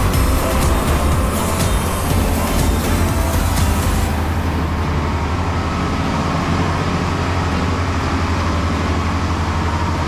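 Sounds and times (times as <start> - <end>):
boat engines running: 0.0 - 10.0.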